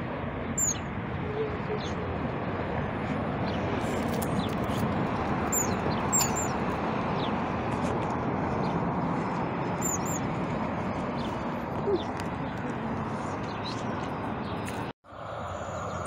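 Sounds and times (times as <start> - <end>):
jet airliner roaring overhead: 0.0 - 14.5, 15.1 - 16.0.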